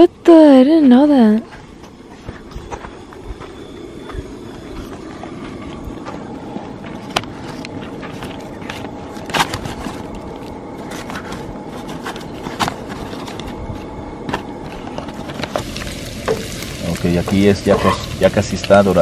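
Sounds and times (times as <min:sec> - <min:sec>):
low rumbling noise: 0:00.0 - 0:19.0.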